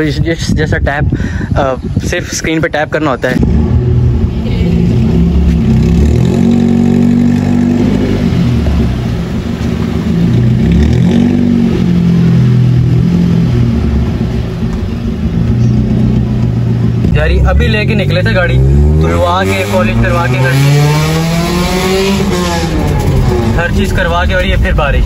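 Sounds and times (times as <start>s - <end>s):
car engine revving: 3.2s - 25.0s.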